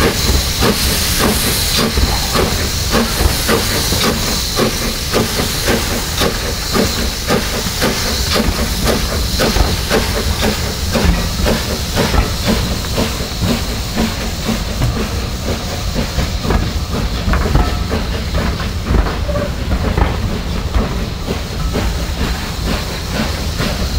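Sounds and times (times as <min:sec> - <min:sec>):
locomotive exhaust beats: 0:00.0 - 0:23.9
steam hissing: 0:00.0 - 0:23.9.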